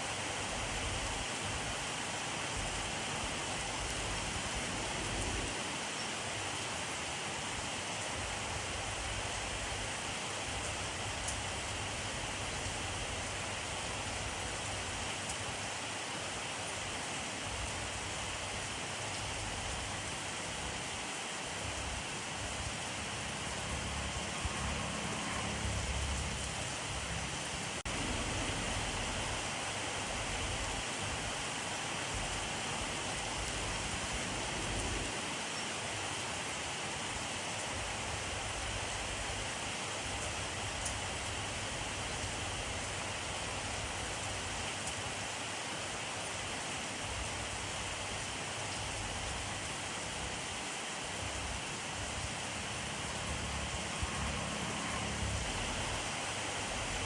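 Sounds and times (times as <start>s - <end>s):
rain hissing on surfaces: 0.0s - 57.0s.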